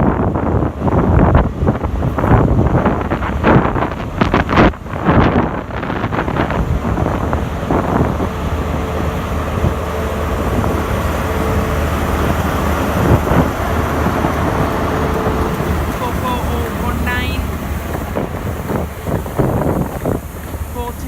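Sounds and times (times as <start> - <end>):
rushing noise: 0.0 - 21.0
train engine hum: 0.0 - 21.0
wind buffeting microphone: 0.0 - 21.0.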